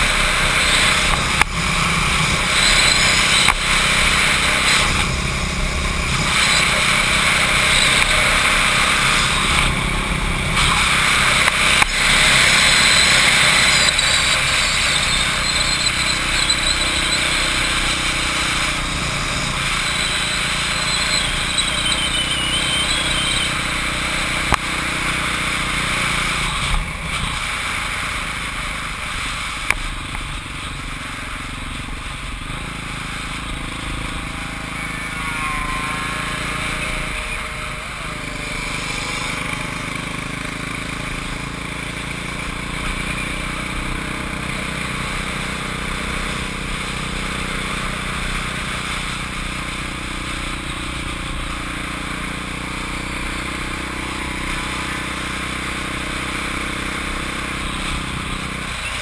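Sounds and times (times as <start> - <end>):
motorcycle engine under throttle: 0.0 - 59.0.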